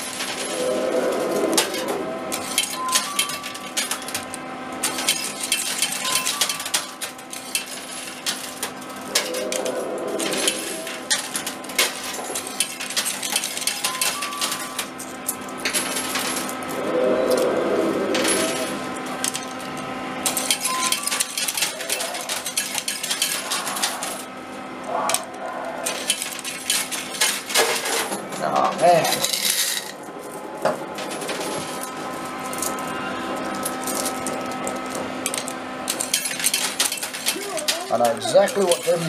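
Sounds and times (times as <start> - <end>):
coins clattering in coin pusher: 0.0 - 16.8, 18.1 - 24.3, 25.1 - 30.4, 31.0 - 39.0
steady electrical hum: 0.0 - 39.0.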